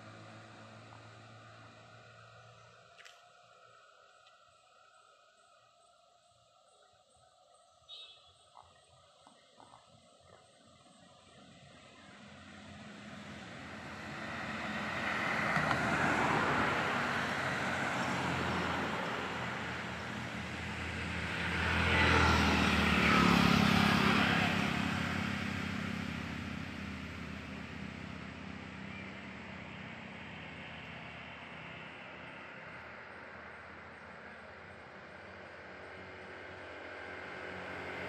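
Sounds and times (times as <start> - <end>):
road vehicles passing: 0.0 - 38.0.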